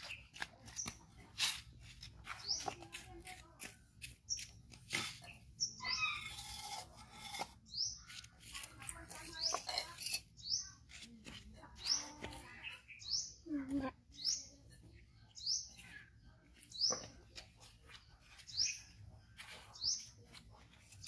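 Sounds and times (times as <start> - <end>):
small bird chirping: 2.3 - 3.3, 4.0 - 21.0.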